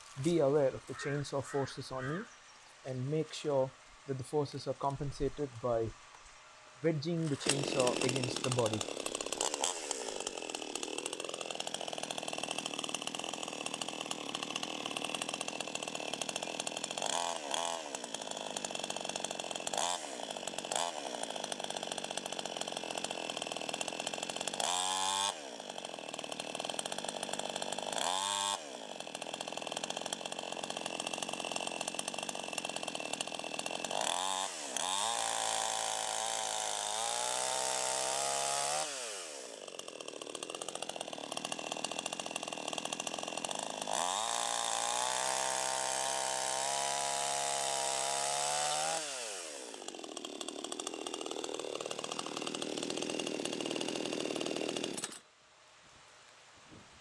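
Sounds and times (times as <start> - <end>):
chainsaw cutting tree trunk: 0.0 - 1.3, 2.7 - 6.2, 6.9 - 55.3.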